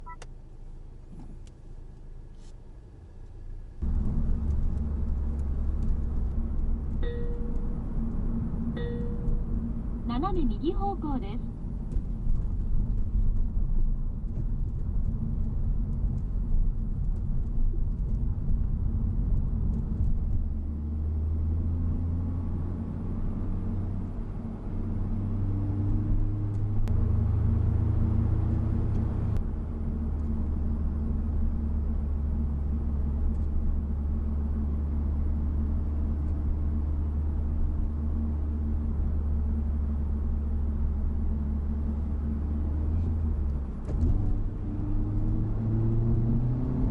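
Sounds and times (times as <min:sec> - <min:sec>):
car engine drone from cabin: 0:00.0 - 0:46.9
road noise: 0:00.0 - 0:46.9.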